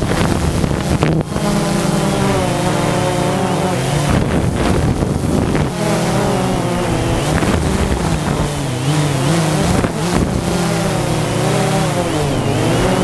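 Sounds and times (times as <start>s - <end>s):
engine revving: 0.0s - 13.0s
wind buffeting microphone: 0.0s - 13.0s.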